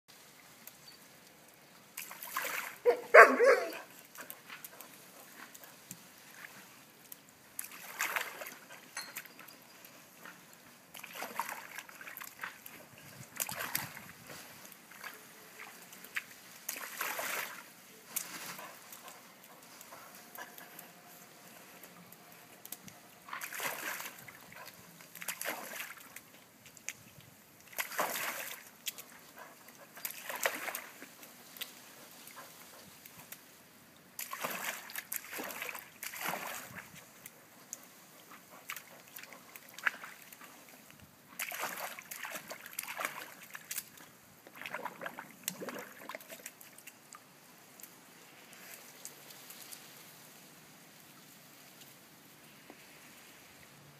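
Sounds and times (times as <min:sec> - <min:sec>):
pool water splashing: 0:00.1 - 0:53.9.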